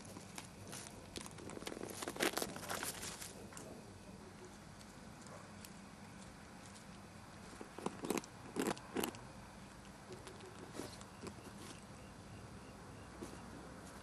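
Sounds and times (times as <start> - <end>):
possum chewing bread: 0.0 - 12.0
faint background noise: 0.0 - 14.0.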